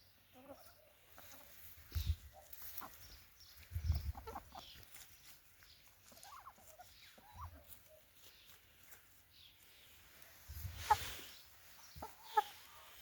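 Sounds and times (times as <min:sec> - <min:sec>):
hens clucking: 0:00.1 - 0:13.0.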